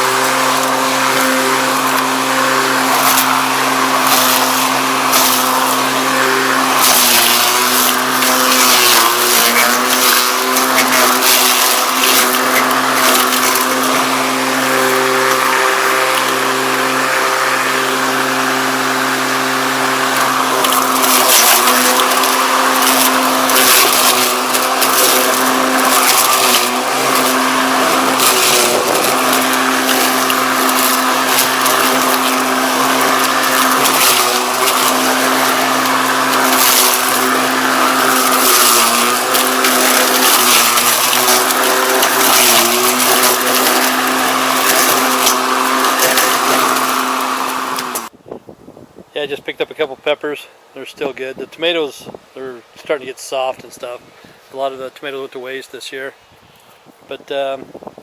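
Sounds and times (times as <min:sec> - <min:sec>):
leaves being shredded: 0:00.0 - 0:48.1
electric lawnmower humming: 0:00.0 - 0:48.2.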